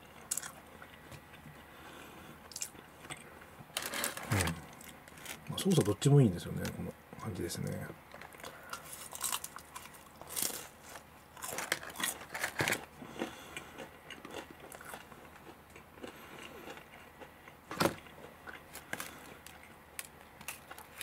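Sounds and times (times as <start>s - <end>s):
chewing crunchy pizza: 0.0s - 6.0s, 8.1s - 21.0s.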